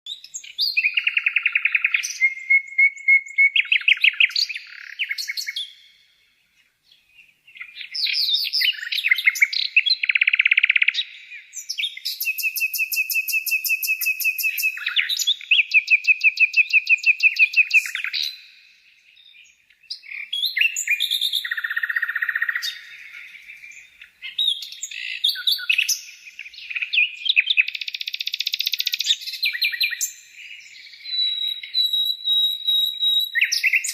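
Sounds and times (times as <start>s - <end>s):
songbird singing trills: 0.1s - 33.9s.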